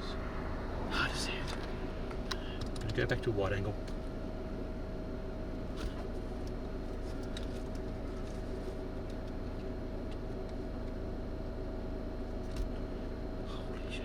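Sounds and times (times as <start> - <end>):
car engine hum from inside: 0.0 - 14.0.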